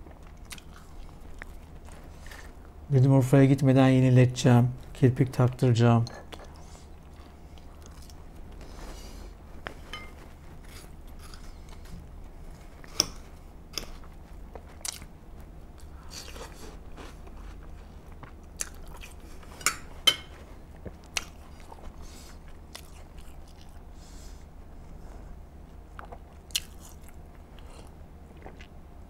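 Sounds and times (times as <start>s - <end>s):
chewing and mouth noises: 0.0s - 2.7s, 6.2s - 23.9s, 25.0s - 28.8s.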